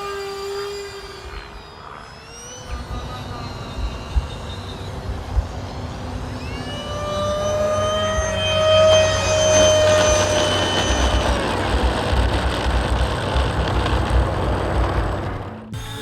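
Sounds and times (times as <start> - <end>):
electric ducted fans whining: 0.0 - 16.0.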